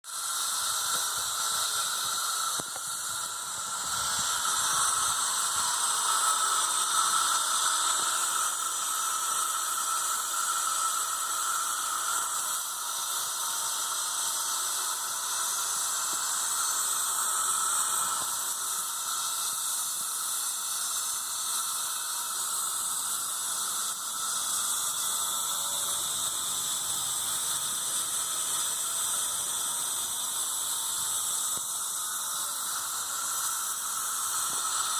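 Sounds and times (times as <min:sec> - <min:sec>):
grinding machinery whine and hiss: 0:00.0 - 0:34.9.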